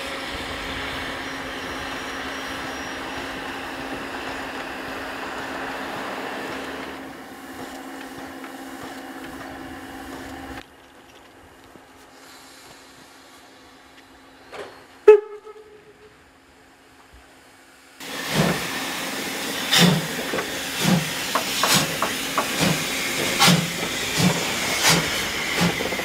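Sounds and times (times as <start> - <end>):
steam locomotive running: 0.0 - 26.0.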